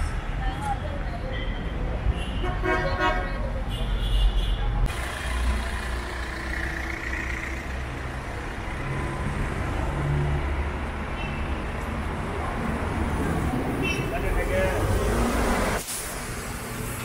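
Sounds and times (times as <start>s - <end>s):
street traffic hum: 0.0s - 17.0s.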